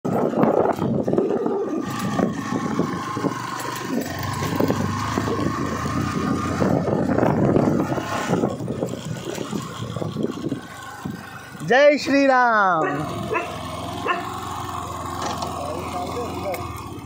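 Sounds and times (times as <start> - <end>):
motorcycle engine running: 0.1 - 17.0.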